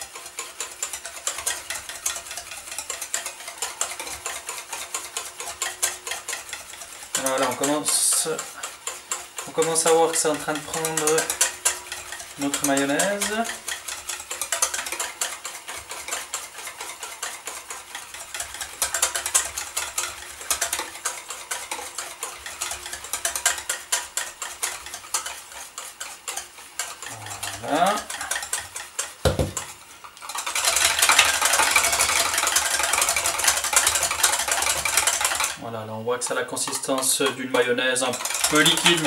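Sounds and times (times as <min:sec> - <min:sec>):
wire whisk beating in metal bowl: 0:00.0 - 0:39.0.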